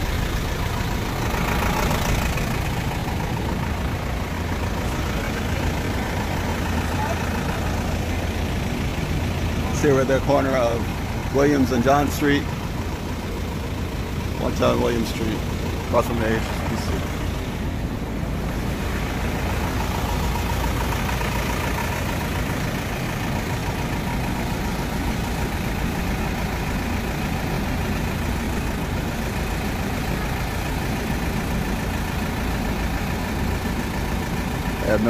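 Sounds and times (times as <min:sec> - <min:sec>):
truck diesel engine idling: 0:00.0 - 0:35.0.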